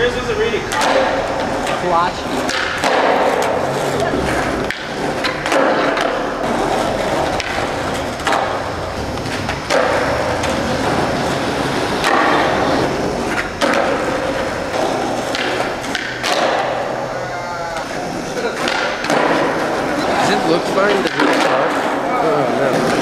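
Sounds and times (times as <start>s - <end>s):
skateboard clacking: 0.0s - 23.0s
skateboard wheels rolling on concrete: 0.0s - 23.0s.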